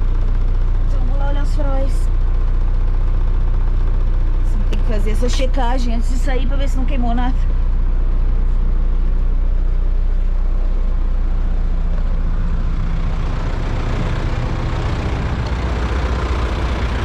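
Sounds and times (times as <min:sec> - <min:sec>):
heavy vehicle engine idling: 0:00.0 - 0:17.0.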